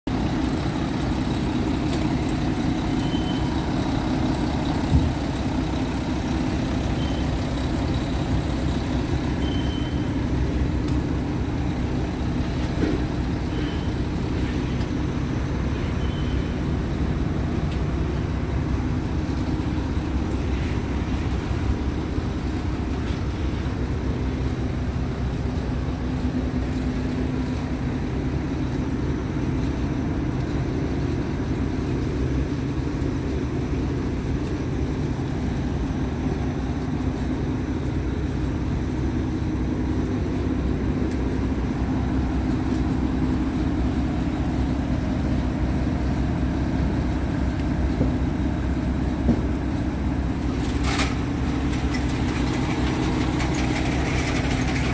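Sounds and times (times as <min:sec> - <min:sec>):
diesel truck engine idling: 0:00.1 - 0:54.9.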